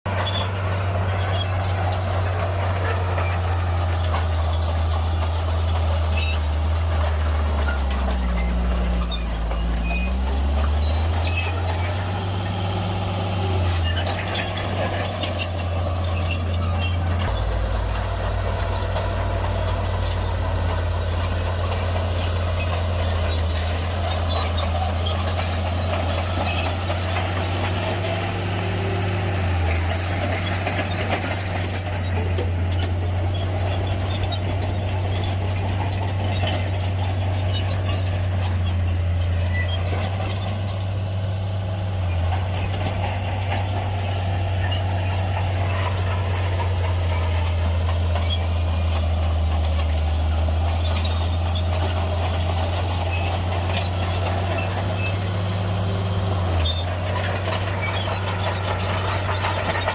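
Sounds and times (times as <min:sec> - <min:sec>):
bulldozer diesel engine under load: 0:00.0 - 0:59.9.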